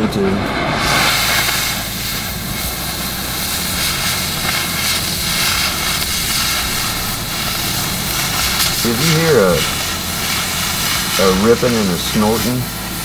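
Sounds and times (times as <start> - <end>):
cutting torch roaring: 0.0 - 13.0.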